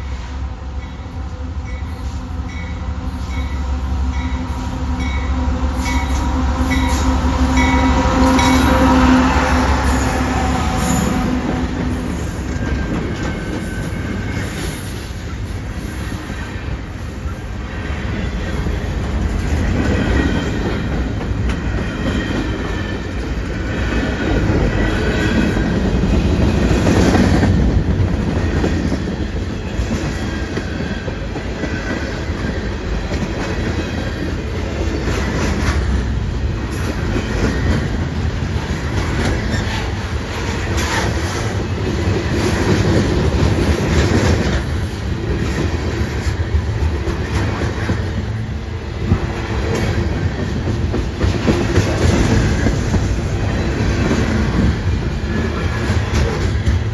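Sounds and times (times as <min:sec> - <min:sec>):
train rumble: 0:00.0 - 0:56.9
wheels clacking over rail joints: 0:05.8 - 0:56.9.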